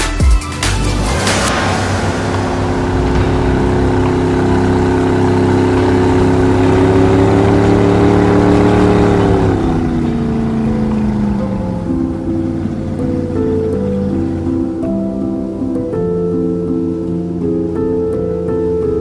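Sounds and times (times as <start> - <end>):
boat engine running: 1.5 - 19.0.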